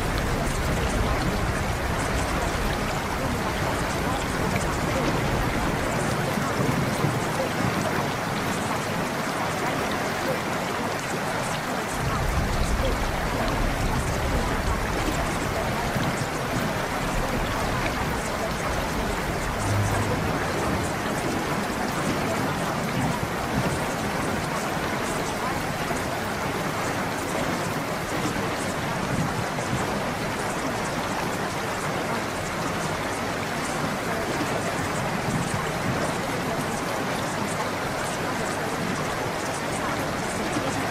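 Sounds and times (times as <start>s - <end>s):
faint water drips: 0.0s - 40.9s
flowing water: 0.0s - 40.9s.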